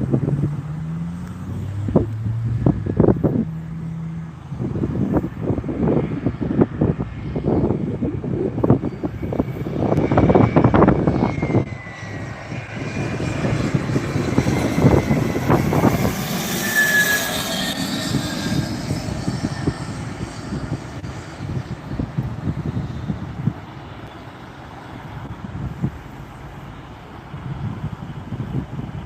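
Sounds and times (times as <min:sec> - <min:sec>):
airplane engines whining: 0:00.0 - 0:29.0
wind buffeting microphone: 0:00.0 - 0:29.0.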